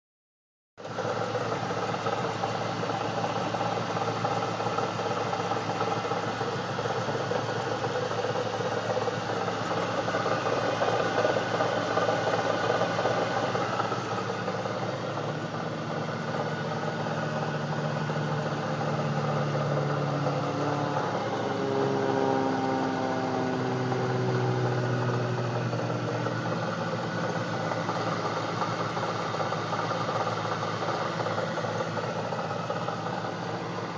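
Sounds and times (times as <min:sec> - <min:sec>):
car engine idling: 0:00.8 - 0:33.9.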